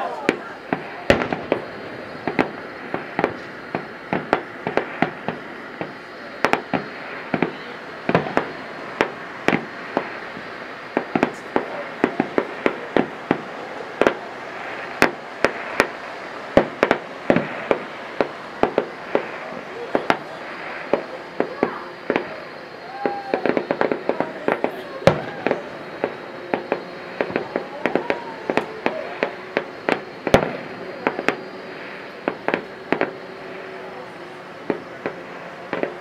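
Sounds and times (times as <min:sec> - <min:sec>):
background hiss: 0:00.0 - 0:36.0
fireworks bangs and pops: 0:00.0 - 0:36.0.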